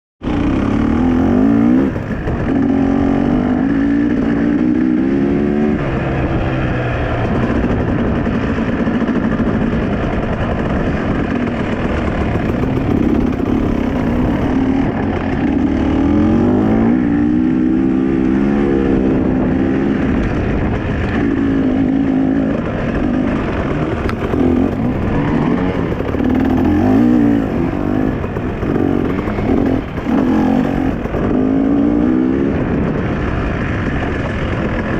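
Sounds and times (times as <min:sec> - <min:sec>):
dirt bike engine revving: 0:00.2 - 0:34.0.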